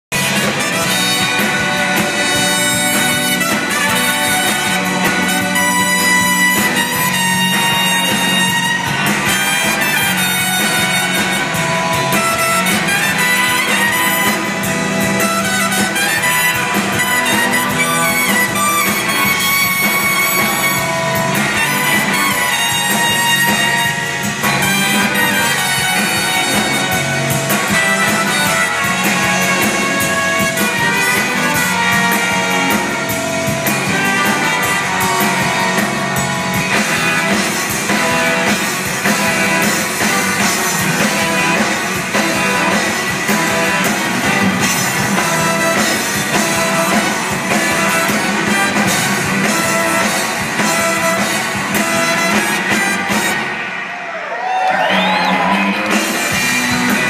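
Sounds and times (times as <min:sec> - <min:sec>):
live band playing: 0:00.0 - 0:57.0
saxophone: 0:00.1 - 0:53.9
trumpet: 0:00.1 - 0:57.0.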